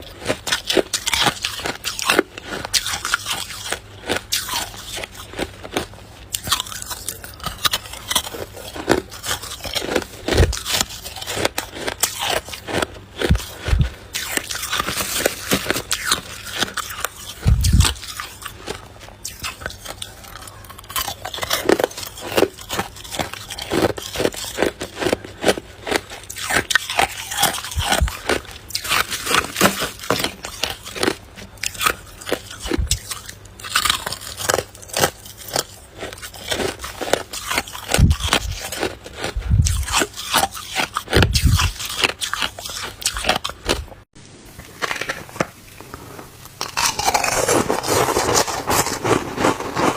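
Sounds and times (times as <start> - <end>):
ice crunching and cracking: 0.2 - 43.9, 44.6 - 49.9.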